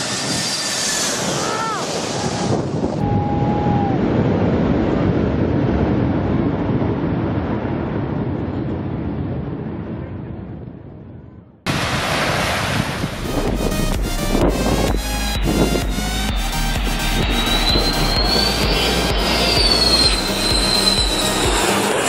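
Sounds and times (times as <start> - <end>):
jet engines roaring: 0.0 - 10.8, 11.7 - 22.0.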